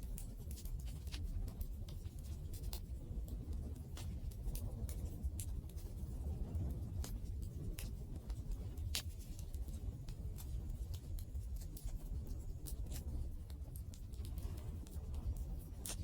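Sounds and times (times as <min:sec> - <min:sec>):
burning wood crackling and popping: 0:00.0 - 0:16.0.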